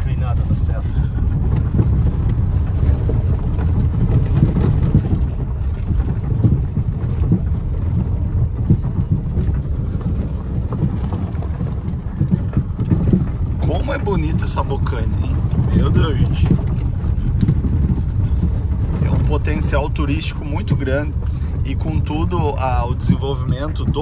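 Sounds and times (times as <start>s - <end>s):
car engine and road noise: 0.0s - 24.0s
wind buffeting microphone: 0.0s - 24.0s.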